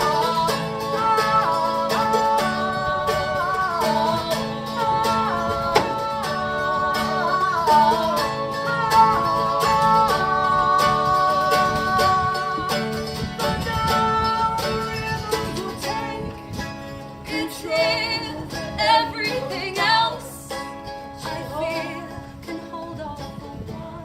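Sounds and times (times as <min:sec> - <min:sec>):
acoustic guitar strumming: 0:00.0 - 0:24.0
wordless sung melody: 0:00.0 - 0:24.0.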